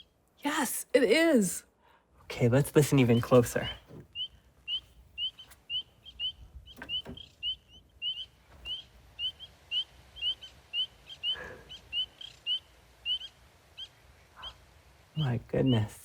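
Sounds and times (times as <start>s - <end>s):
frogs peeping: 2.8s - 15.9s.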